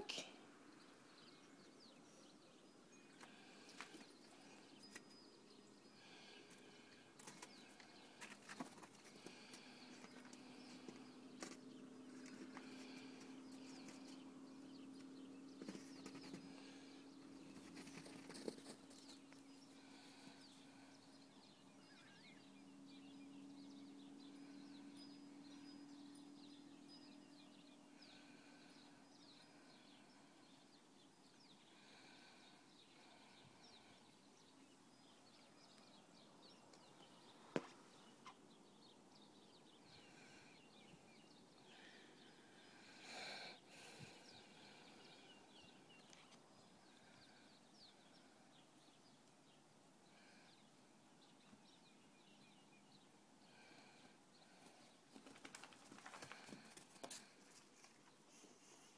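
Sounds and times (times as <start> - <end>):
faint bird chirps: 0.0 - 58.9.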